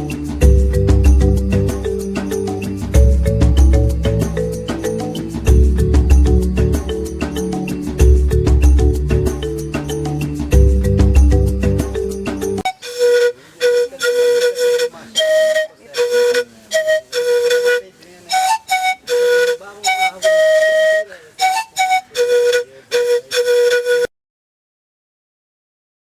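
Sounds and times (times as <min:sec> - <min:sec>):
flute-like wind instrument melody: 0:00.0 - 0:24.1.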